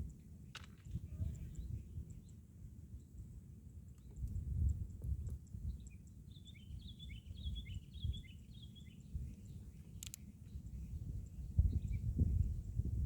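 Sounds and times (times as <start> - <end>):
small bird singing: 0.0 - 13.0.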